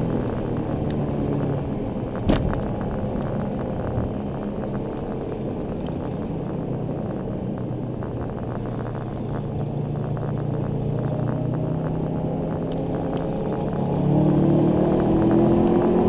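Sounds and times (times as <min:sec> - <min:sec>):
car engine drone from inside: 0:00.0 - 0:16.0
road noise: 0:00.0 - 0:16.0.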